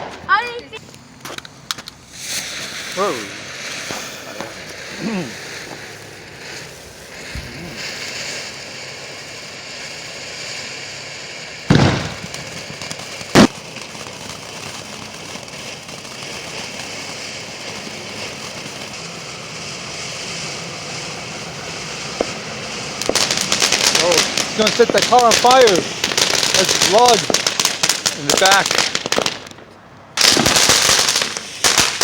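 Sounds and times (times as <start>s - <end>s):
fireworks hissing crackle: 0.0s - 32.0s
fireworks loud bangs: 0.0s - 32.0s.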